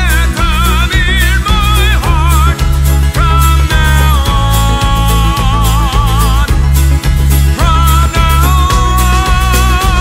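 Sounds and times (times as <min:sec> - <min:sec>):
song with heavy bass: 0:00.0 - 0:10.0.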